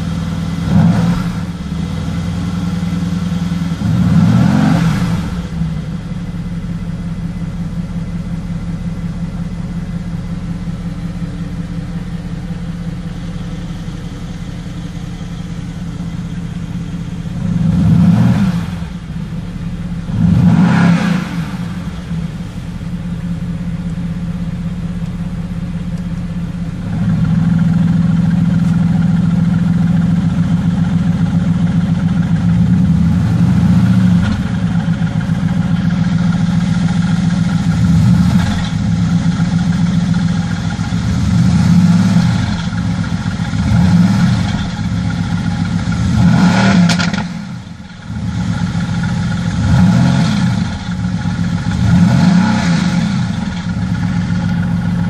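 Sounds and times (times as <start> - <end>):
car engine idling: 0.0 - 55.0
engine throttle blips: 0.0 - 55.0.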